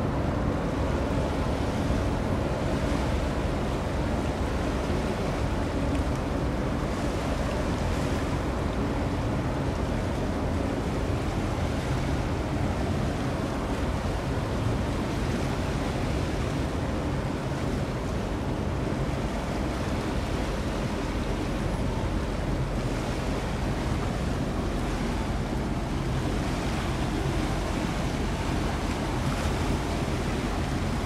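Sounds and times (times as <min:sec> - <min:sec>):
ship engine rumble: 0:00.0 - 0:31.0
water wash: 0:00.0 - 0:31.0.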